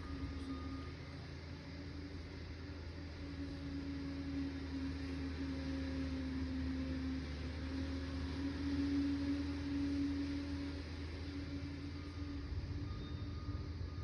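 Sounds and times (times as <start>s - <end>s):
dozer diesel engine droning: 0.0s - 14.0s.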